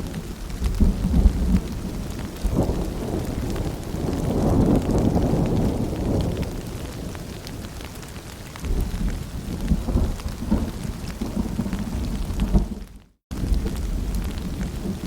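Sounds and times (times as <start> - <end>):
rolling thunder: 0.0 - 7.6, 8.6 - 15.0
rain pattering: 0.0 - 15.0.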